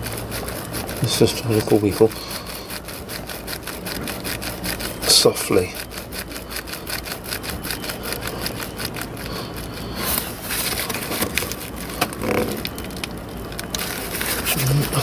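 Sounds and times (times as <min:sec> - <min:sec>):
plastic and rubber hose creaking: 0:00.0 - 0:15.0
scraping clicks: 0:00.0 - 0:15.0.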